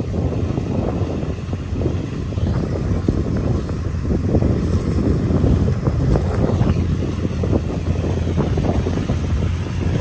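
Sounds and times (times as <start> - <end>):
diesel engine droning: 0.0 - 10.0
wind buffeting microphone: 0.0 - 10.0.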